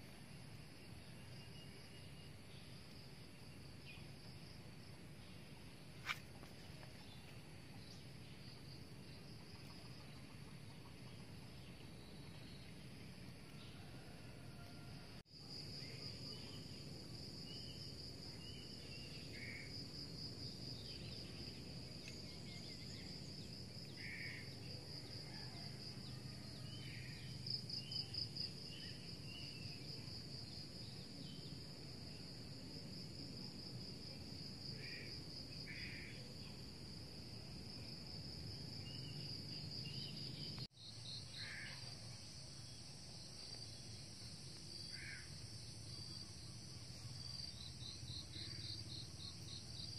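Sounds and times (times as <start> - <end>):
insects trilling: 0.8 - 49.9.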